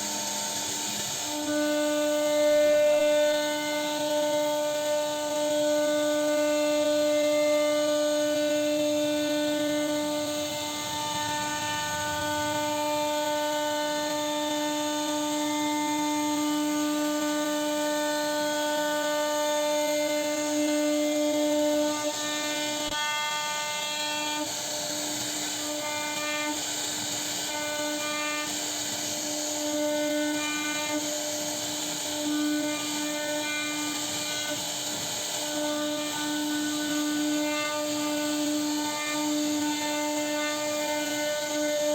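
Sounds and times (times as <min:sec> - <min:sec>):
router spindle whining carving wood: 0:00.0 - 0:41.9.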